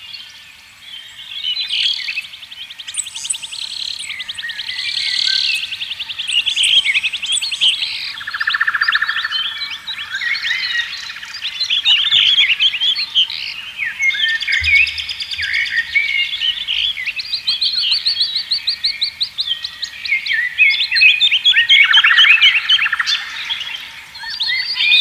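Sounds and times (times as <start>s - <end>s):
songbirds chorus: 0.1s - 25.0s.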